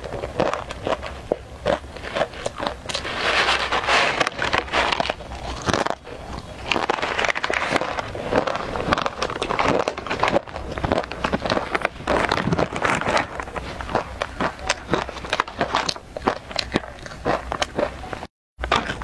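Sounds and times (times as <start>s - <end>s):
crunching and chewing snacks: 0.0s - 19.0s.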